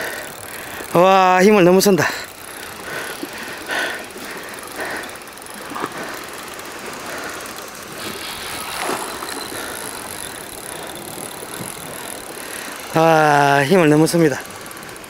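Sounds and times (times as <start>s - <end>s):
fishing reel clicking: 0.0s - 15.0s
wind and sea hiss: 0.0s - 15.0s.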